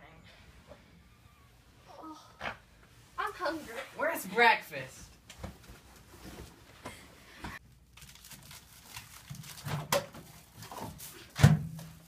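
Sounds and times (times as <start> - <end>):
people rustling and handling things: 0.4 - 12.0.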